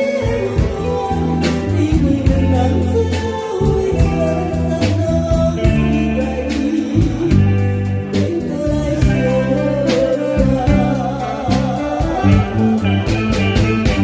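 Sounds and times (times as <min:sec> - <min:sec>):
person singing a ballad: 0:00.0 - 0:14.0
slow drum beat: 0:00.0 - 0:14.0
sustained bass: 0:00.0 - 0:14.0.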